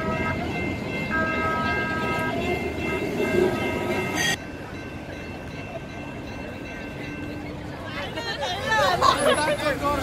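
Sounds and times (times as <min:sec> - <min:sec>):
light-rail train whining: 0:00.0 - 0:10.0
street noise: 0:00.0 - 0:10.0.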